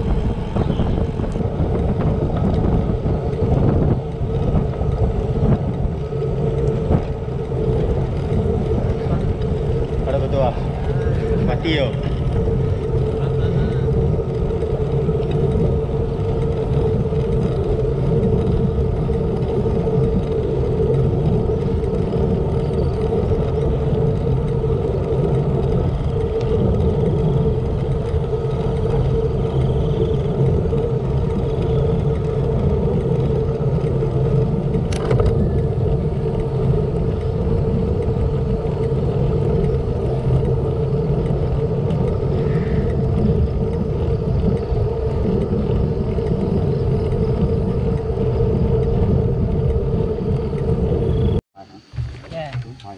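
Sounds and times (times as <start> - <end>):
wind on microphone: 0.0 - 52.8
bike tyres rolling on asphalt: 0.0 - 52.9.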